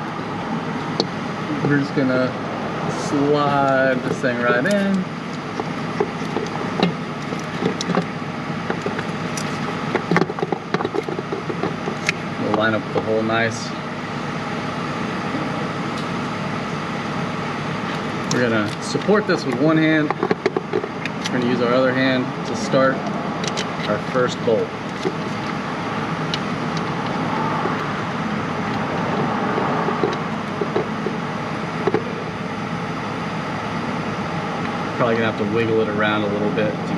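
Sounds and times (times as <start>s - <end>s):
steady background noise: 0.0s - 36.9s.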